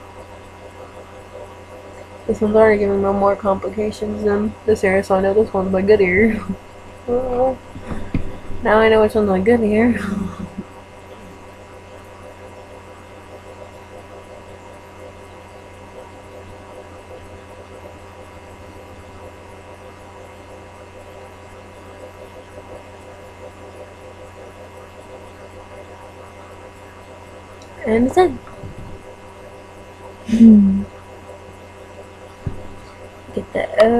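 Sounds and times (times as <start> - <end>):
electrical mains hum: 0.0 - 33.9.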